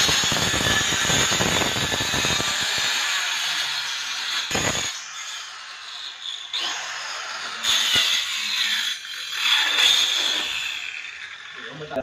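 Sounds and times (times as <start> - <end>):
circular saw cutting plywood: 0.0 - 12.0.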